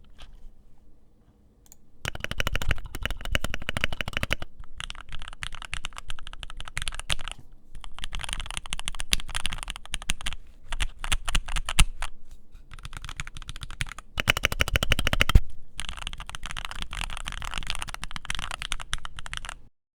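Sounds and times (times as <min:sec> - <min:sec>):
mechanical keyboard typing: 0:01.7 - 0:12.1, 0:12.7 - 0:19.7.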